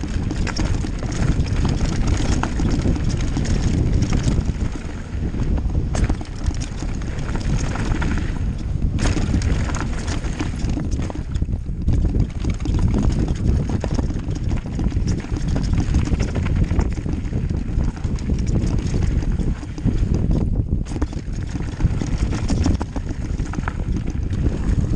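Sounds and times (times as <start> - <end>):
bike knocks and rattles: 0.0 - 24.9
bike tyre noise: 0.0 - 24.9
wind on microphone: 0.0 - 24.9.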